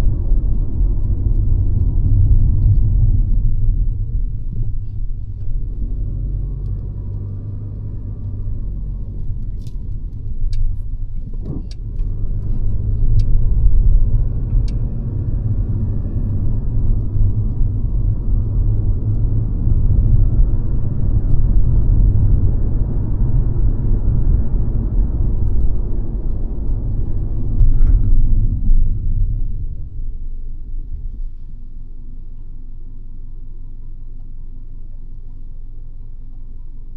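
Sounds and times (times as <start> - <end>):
car engine and road noise: 0.0 - 36.9.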